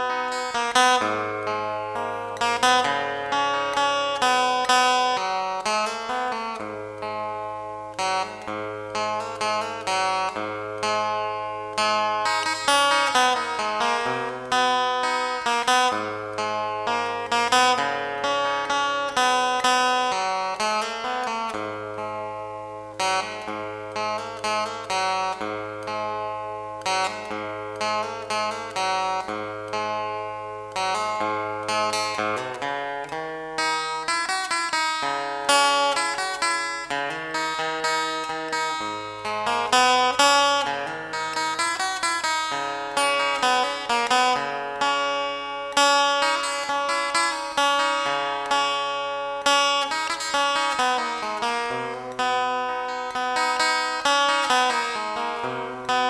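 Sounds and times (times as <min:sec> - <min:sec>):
acoustic guitar melody: 0:00.0 - 0:56.0.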